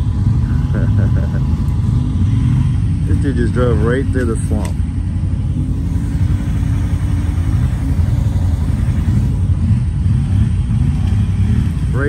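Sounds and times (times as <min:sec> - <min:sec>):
utility vehicle engine rumble: 0:00.0 - 0:12.0.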